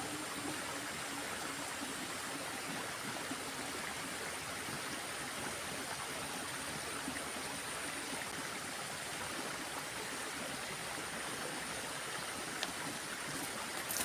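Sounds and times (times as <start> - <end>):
stream running water: 0.0 - 14.0.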